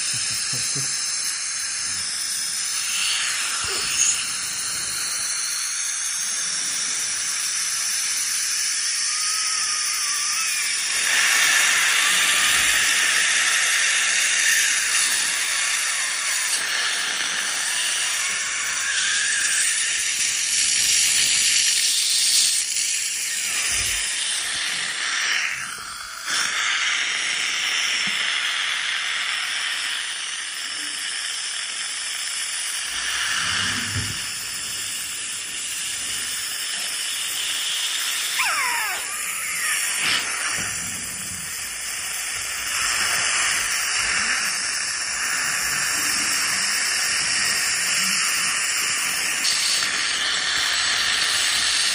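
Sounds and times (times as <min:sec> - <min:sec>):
dental scaler hissing water spray: 0:00.0 - 0:51.9.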